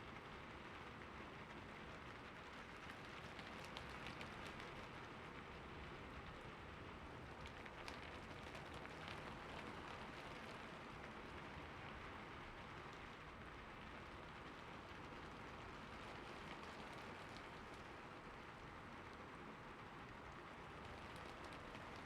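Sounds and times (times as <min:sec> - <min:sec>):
soft steady rain: 0:00.0 - 0:22.0.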